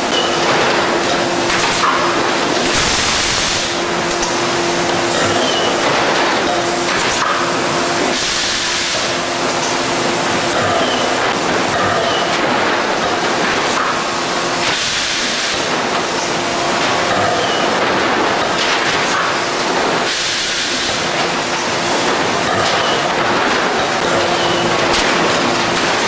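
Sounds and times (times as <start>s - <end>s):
industrial machine noise: 0.0s - 26.0s.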